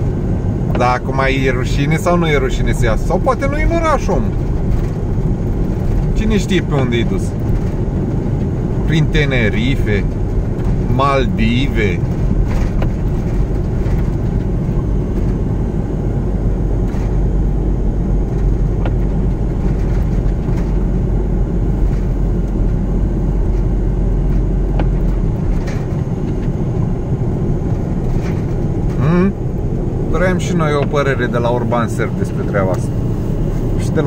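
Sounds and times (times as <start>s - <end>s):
car driving on packed snow: 0.0s - 34.0s.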